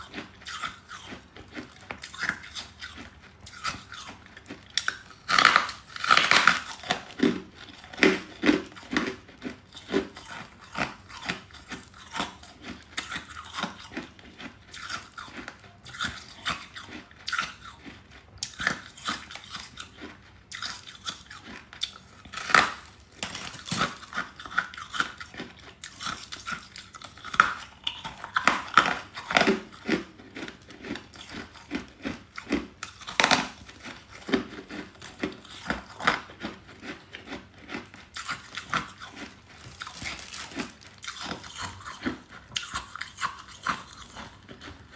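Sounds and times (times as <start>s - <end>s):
person crunching frost: 0.0s - 44.9s.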